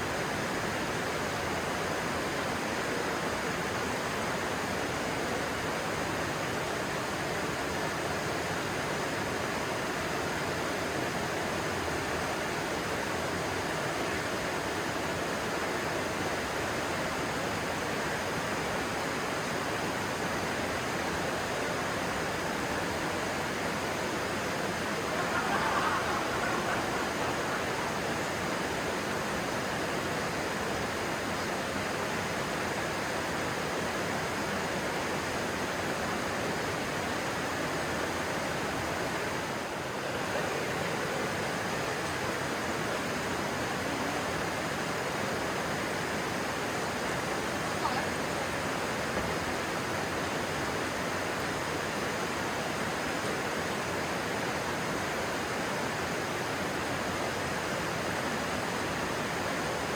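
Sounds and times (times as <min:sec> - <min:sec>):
stream rushing and splashing: 0:00.0 - 0:59.9.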